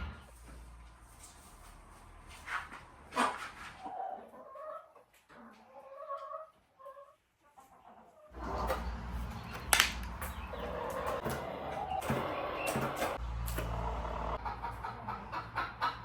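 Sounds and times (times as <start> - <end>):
chickens clucking: 2.8 - 16.0.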